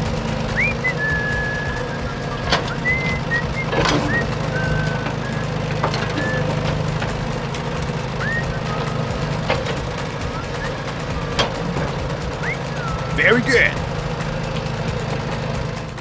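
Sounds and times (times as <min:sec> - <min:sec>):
sharp clicks: 0:00.1 - 0:15.9
high whistled chirps: 0:00.5 - 0:06.8, 0:08.0 - 0:14.6.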